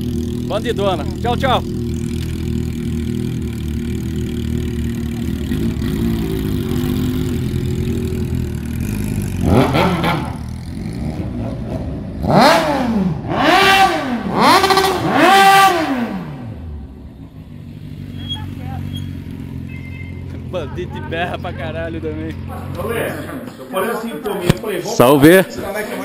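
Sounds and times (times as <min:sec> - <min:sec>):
motorcycle engine idling and revving: 0:00.0 - 0:23.6.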